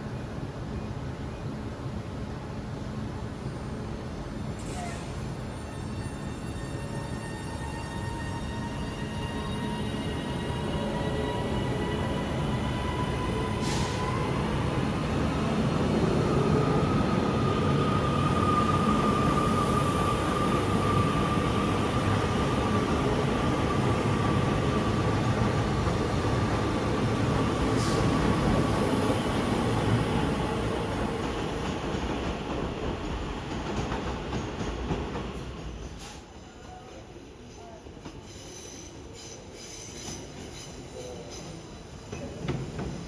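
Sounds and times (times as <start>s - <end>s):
train wheels rumbling on track: 8.1s - 43.0s.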